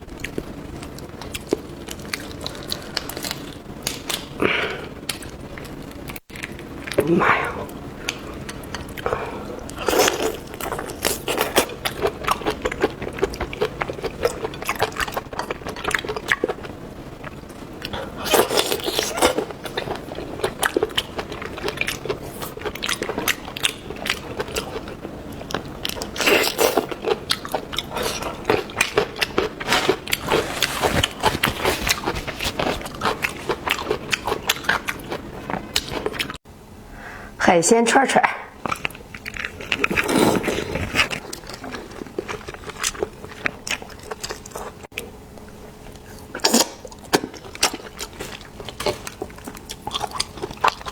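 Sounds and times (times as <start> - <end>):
person chewing with wet crunches: 0.1 - 36.4, 38.6 - 50.9.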